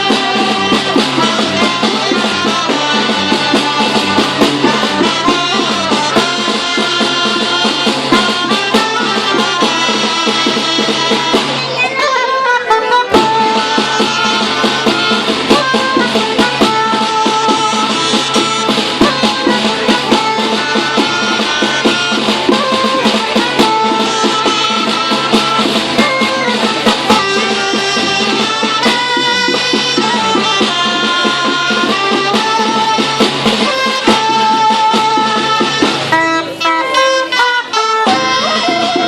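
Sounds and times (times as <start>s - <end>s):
drums keeping a beat: 0.0s - 39.0s
small ensemble instrumental: 0.0s - 39.0s.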